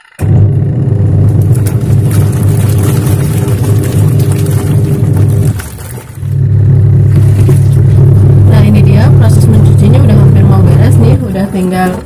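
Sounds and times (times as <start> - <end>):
washing machine motor humming: 0.0 - 12.0
water churning: 0.3 - 12.0.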